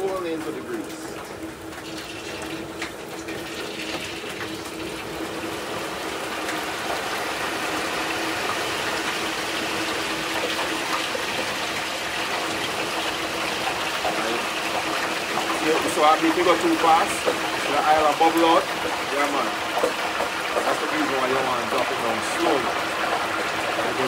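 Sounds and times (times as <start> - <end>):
frying oil bubbling and sizzling: 0.0 - 24.0.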